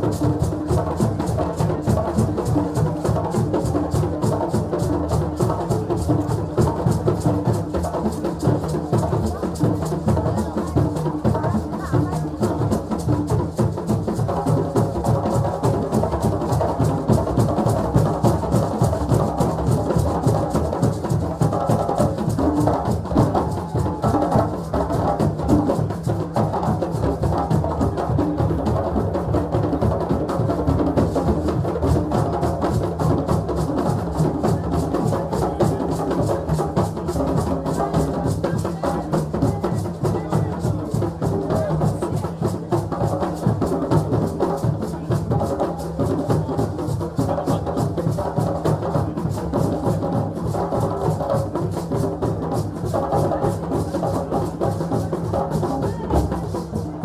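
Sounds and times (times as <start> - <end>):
drums beaten in fast rhythm: 0.0 - 57.0.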